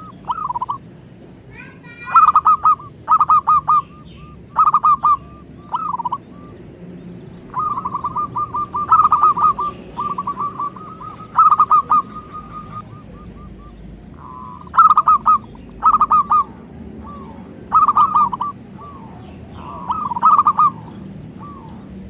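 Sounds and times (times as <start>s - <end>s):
dove cooing: 0.0s - 0.9s, 1.6s - 22.0s.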